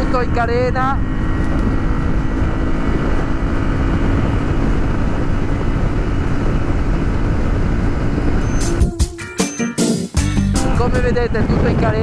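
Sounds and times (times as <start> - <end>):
heavy wind rush: 0.0 - 9.1, 10.5 - 12.0
motorcycle engine drone: 0.0 - 9.2, 10.4 - 12.0.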